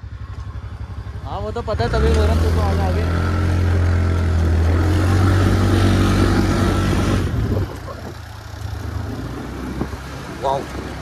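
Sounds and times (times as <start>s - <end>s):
vehicle engine running loud: 0.0s - 11.0s.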